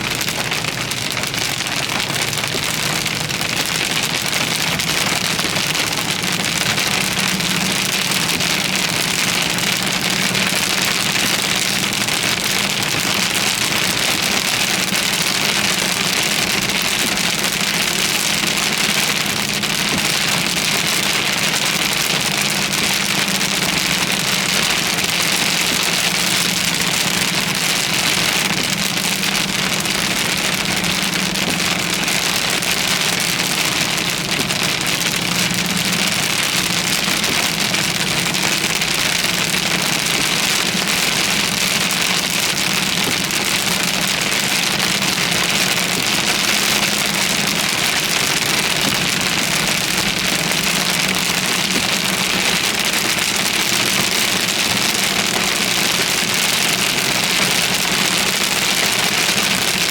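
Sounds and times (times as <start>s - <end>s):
car engine humming: 0.0s - 59.8s
heavy rain on a car: 0.0s - 59.9s.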